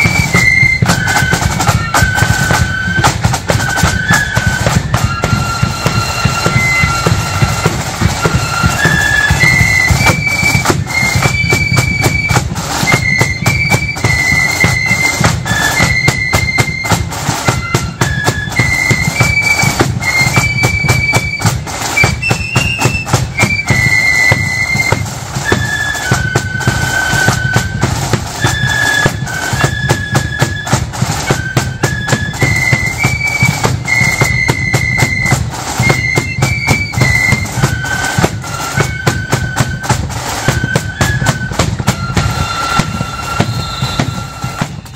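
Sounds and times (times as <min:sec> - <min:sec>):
flute band melody: 0:00.0 - 0:44.9
snare drumming: 0:00.0 - 0:44.9.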